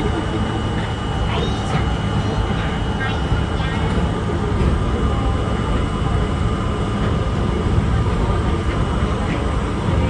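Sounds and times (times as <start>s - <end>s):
subway car rumbling on track: 0.0s - 10.0s.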